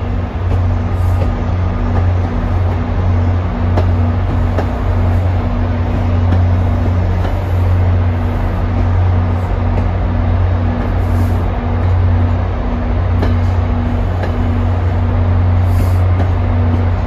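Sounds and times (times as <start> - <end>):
diesel locomotive engine humming: 0.0 - 17.0.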